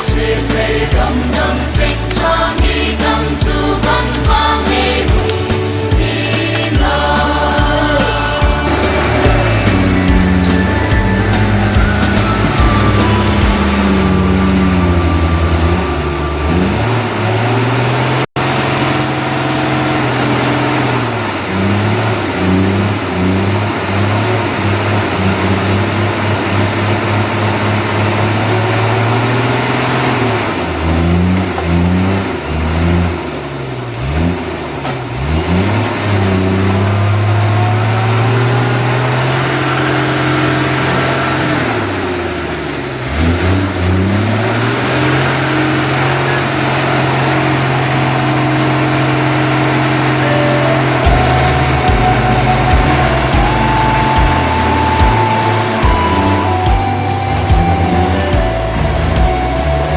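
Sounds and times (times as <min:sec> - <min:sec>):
diesel truck engine revving: 0:00.0 - 0:59.9.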